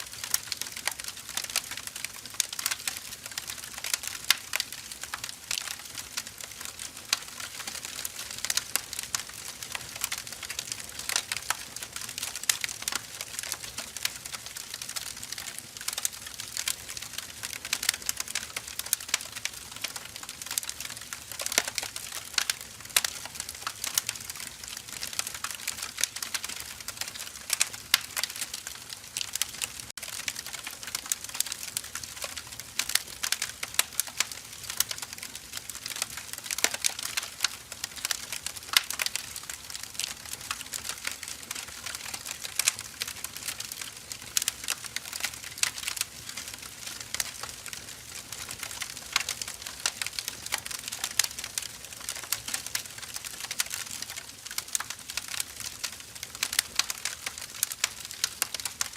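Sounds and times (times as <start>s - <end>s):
firewood crackling: 0.0s - 58.9s.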